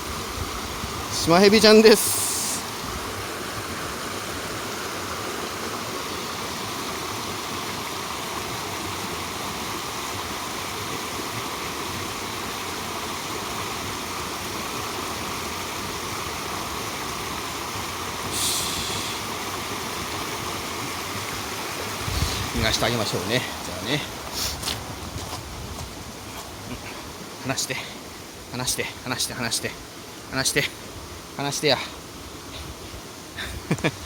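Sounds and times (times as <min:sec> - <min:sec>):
mountain stream flowing: 0:00.0 - 0:34.0.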